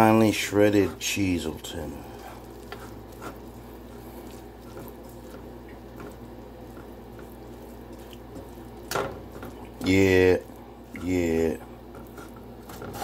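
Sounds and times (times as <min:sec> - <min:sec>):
food sizzling in a pot: 0:00.0 - 0:13.0
spatula ticks and scrapes: 0:00.0 - 0:13.0
steady low hum: 0:00.0 - 0:13.0.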